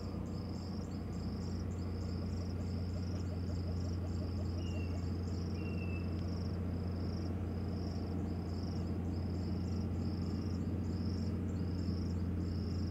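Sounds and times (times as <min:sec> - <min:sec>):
constant low hum: 0:00.0 - 0:12.9
insect chirping: 0:00.0 - 0:12.9.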